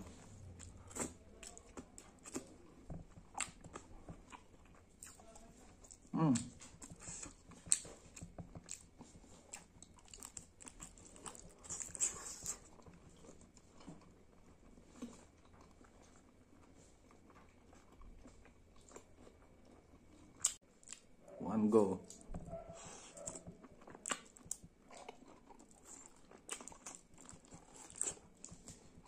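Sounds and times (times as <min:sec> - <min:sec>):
chewing and biting food: 0:00.0 - 0:21.1, 0:22.1 - 0:29.0.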